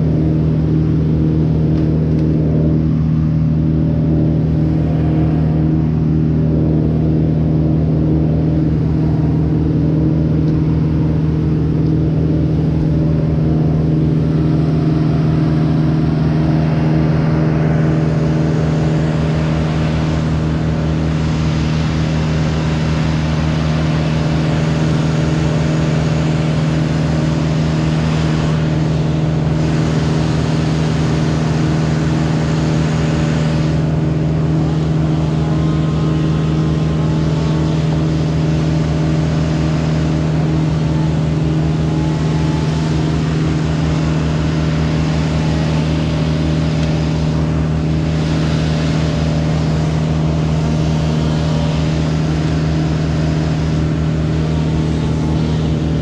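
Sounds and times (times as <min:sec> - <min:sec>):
engine droning steadily: 0:00.0 - 0:56.0.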